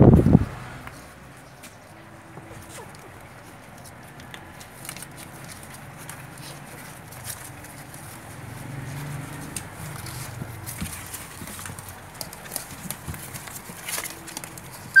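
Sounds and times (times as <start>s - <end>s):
paws scratching on cardboard: 0.1s - 15.0s.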